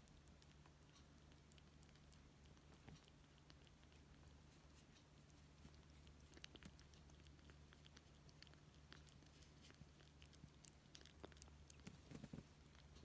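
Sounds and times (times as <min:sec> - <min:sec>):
cat chewing and licking: 0:00.0 - 0:13.0
low steady hum: 0:00.0 - 0:13.0.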